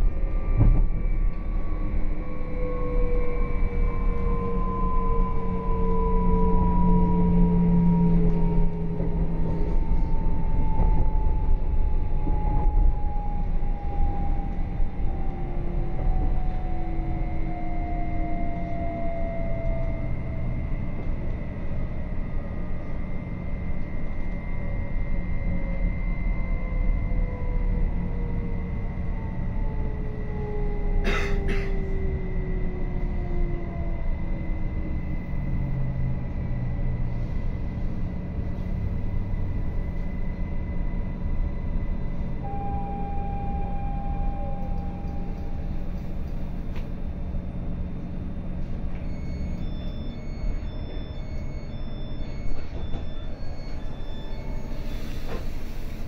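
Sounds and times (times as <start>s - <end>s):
electric traction motor whine: 0.0s - 56.0s.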